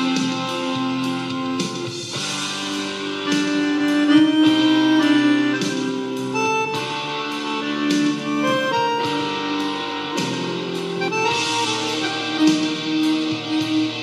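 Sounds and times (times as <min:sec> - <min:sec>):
accordion melody: 0:00.0 - 0:14.0
backing track percussion: 0:00.0 - 0:14.0.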